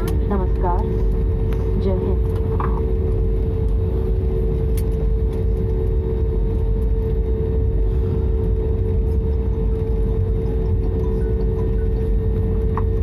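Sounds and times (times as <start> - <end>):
constant hum: 0.0 - 13.0
jet engines rumbling: 0.0 - 13.0.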